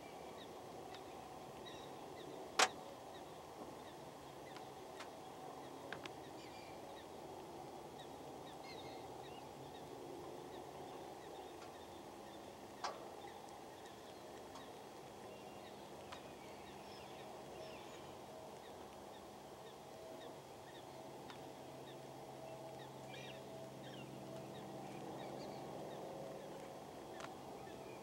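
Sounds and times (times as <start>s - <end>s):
steady low hiss: 0.0s - 28.0s.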